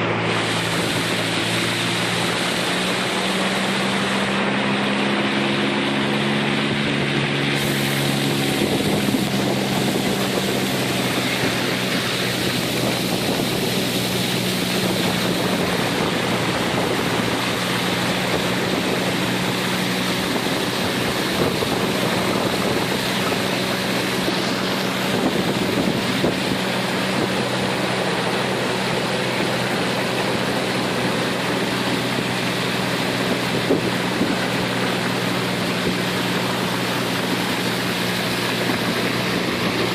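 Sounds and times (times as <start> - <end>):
small boat motor running: 0.0 - 39.9
wind on microphone: 0.0 - 39.9.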